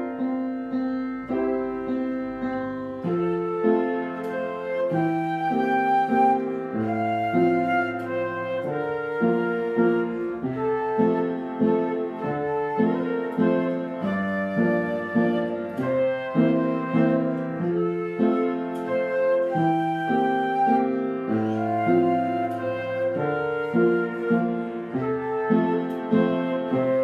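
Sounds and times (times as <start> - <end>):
flute melody: 0.0 - 27.0
low held accompaniment notes: 0.0 - 27.0.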